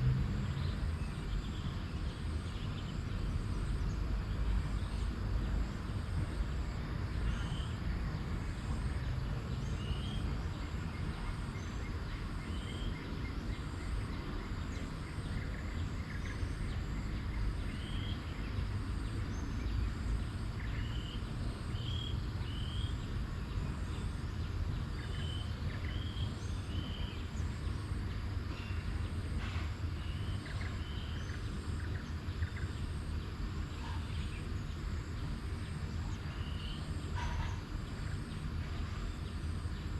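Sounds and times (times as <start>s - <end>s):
pulsing high insect drone: 0.0s - 39.9s
bird chirping: 7.2s - 29.4s, 30.0s - 39.9s.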